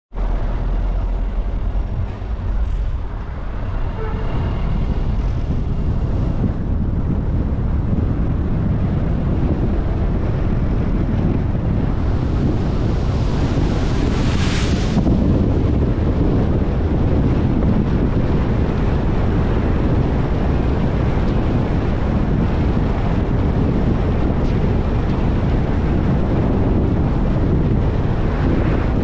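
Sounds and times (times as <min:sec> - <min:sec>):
car road noise: 0:00.1 - 0:29.0
wind rumbling on microphone: 0:00.1 - 0:29.0.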